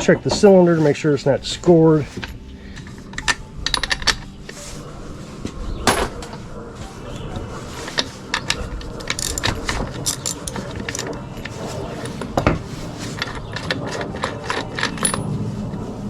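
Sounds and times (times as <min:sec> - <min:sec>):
hand tools clattering on metal: 0:00.0 - 0:04.8, 0:05.8 - 0:15.5.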